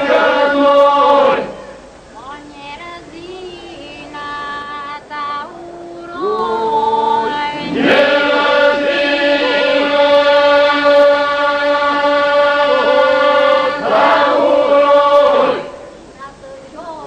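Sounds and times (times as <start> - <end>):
lead voice singing: 0.0 - 1.6, 2.2 - 15.8
group singing a drone: 0.0 - 1.8, 2.8 - 16.0.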